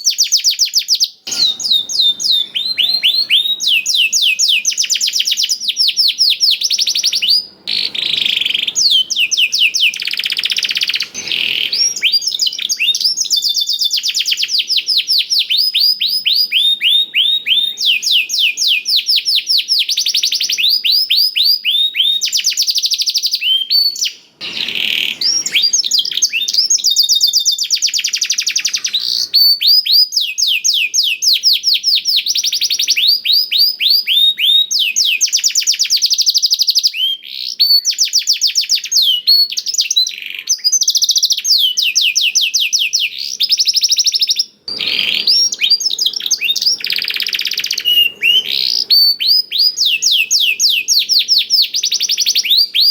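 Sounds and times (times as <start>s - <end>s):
canary singing fast trills: 0.0s - 52.9s.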